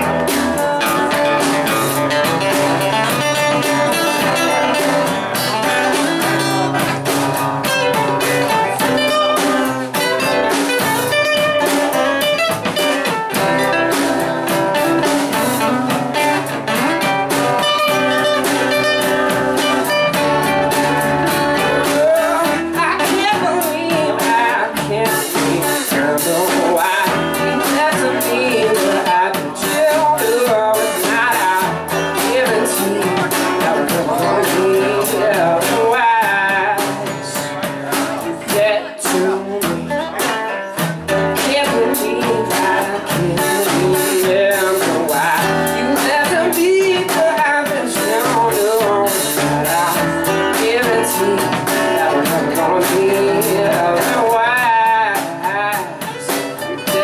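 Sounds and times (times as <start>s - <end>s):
acoustic guitar: 0.0s - 57.0s
bass guitar: 0.0s - 57.0s
drum kit: 0.0s - 57.0s
electric guitar: 0.0s - 57.0s
person singing: 0.0s - 57.0s.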